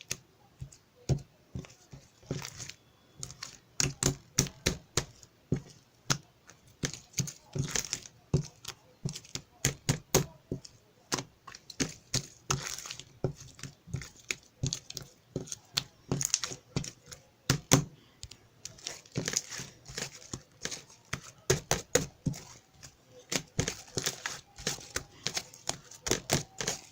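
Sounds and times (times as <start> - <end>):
crinkling and tearing: 1.6 - 26.9.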